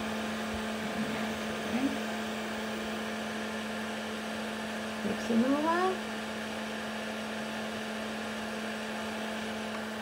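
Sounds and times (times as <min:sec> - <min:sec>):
fan humming: 0:00.0 - 0:10.0.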